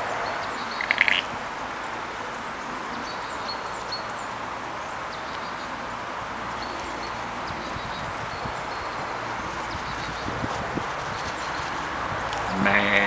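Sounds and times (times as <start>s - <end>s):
loud rattling bird call: 0.0s - 13.0s
steady outdoor noise: 0.0s - 13.0s.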